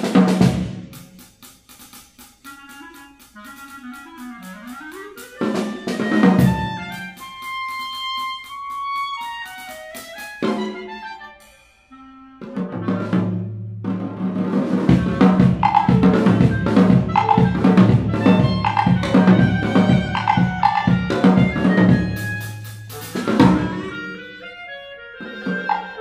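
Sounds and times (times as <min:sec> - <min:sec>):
rapid drum strokes: 0:00.0 - 0:24.4, 0:25.2 - 0:26.0
sustained clarinet notes: 0:02.4 - 0:13.6, 0:14.9 - 0:26.0.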